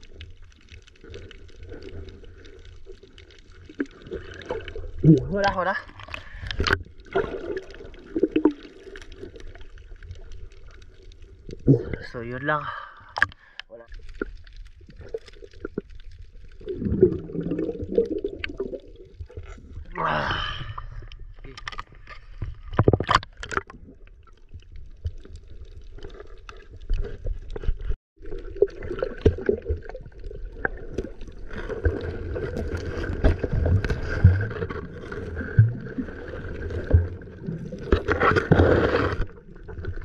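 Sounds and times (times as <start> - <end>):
underwater rumble and gurgling: 0.0 - 40.0
water noise: 0.0 - 40.0.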